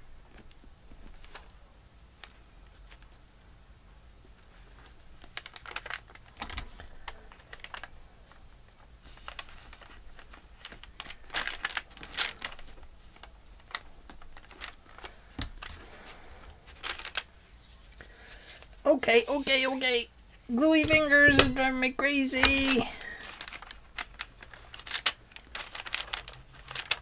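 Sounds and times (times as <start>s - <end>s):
paper rustling: 0.2s - 1.6s, 4.2s - 27.0s.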